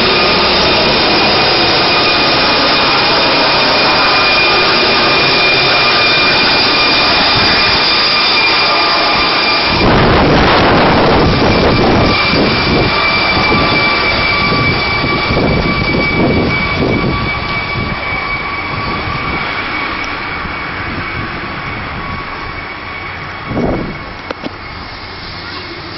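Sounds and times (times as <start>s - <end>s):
helicopter flying overhead: 0.0s - 25.9s.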